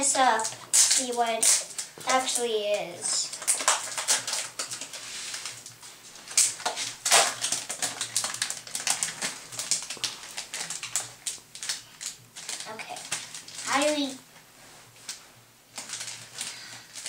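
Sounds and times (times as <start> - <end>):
wrapping crinkling and rustling: 0.0 - 17.0.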